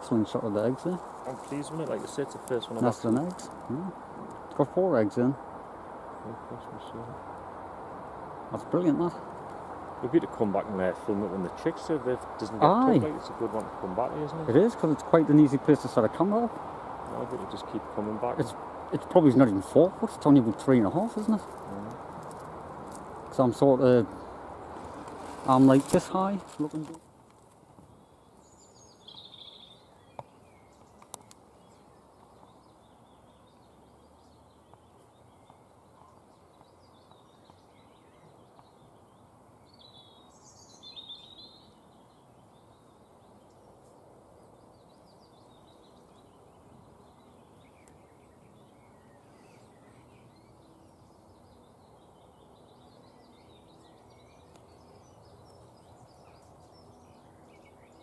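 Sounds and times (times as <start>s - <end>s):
steady outdoor hiss: 0.0s - 58.0s
wild birds chirping: 0.0s - 58.0s.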